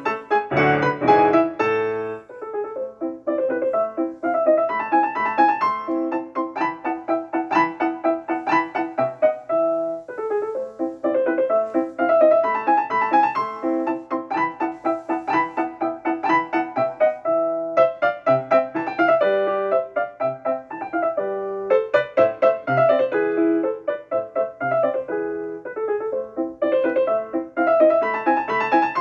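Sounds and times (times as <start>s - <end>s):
rapid piano music: 0.0s - 29.0s.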